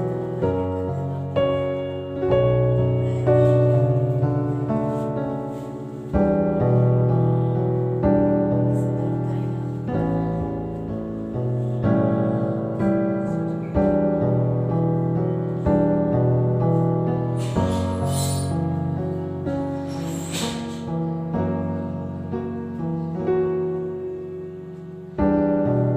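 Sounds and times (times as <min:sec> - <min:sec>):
slow piano chords: 0:00.0 - 0:25.9.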